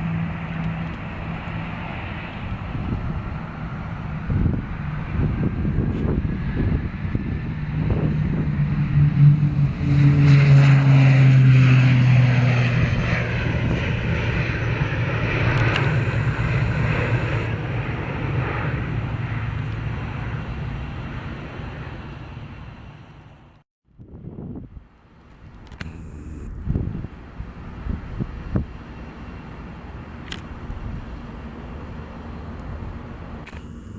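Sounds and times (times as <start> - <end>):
military aircraft engine drone: 0.0 - 23.6, 24.7 - 33.9.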